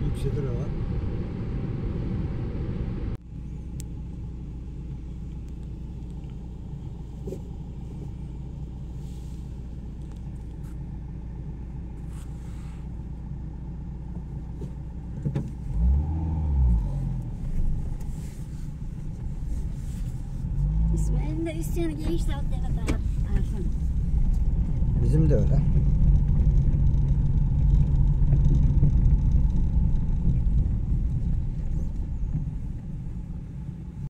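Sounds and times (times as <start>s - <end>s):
car engine and road noise: 0.0s - 34.0s
low rumble rising and falling: 0.0s - 34.0s.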